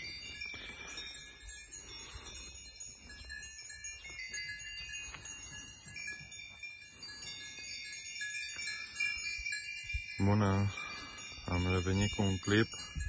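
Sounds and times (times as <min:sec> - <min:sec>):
goat bells ringing: 0:00.0 - 0:13.0.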